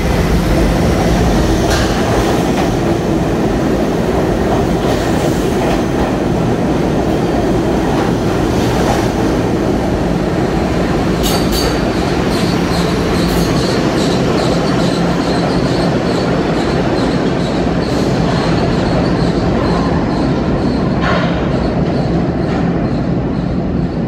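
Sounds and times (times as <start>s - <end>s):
train wheel-and-rail rumble: 0.0s - 24.0s.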